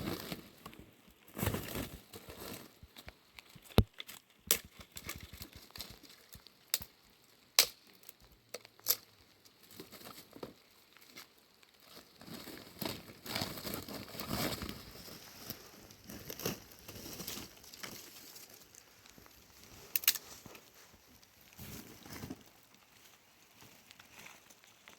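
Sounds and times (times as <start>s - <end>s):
rustling and crinkling handling noise: 0.0s - 24.9s.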